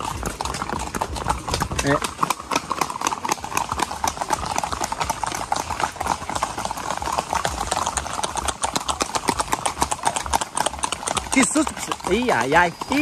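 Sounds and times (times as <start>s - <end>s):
hooves clip-clopping on pavement: 0.0s - 13.0s.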